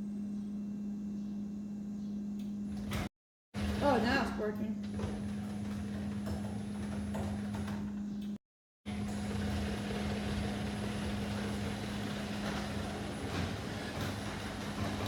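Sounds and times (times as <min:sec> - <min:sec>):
garage door opener motor hum: 0:02.3 - 0:15.0.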